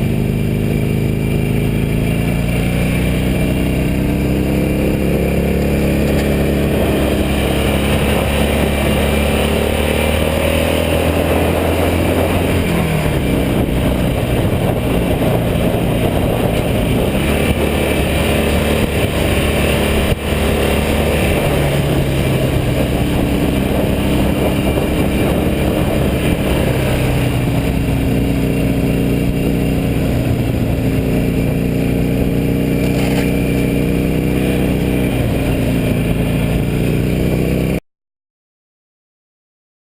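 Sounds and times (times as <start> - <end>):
vehicle engine accelerating: 0.0 - 37.8.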